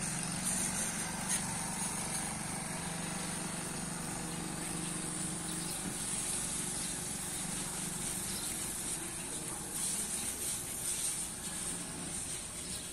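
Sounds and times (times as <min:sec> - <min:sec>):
distant motorcycle engine: 0:00.0 - 0:12.9.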